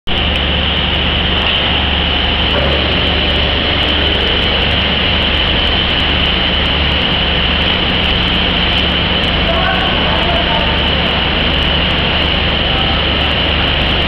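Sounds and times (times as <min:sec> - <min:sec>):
machinery low hum: 0:00.1 - 0:14.0.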